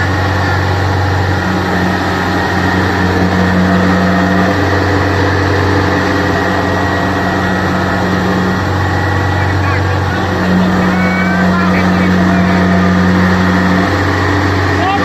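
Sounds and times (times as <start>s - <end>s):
combine harvester diesel engine: 0.0s - 15.0s
deeper tone: 0.0s - 15.0s
thin high whine: 0.0s - 15.0s.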